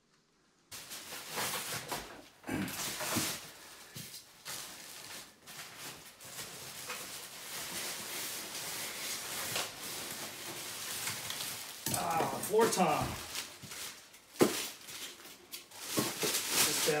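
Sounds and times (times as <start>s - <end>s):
cardboard and plastic wrap rustling: 0.7s - 17.0s.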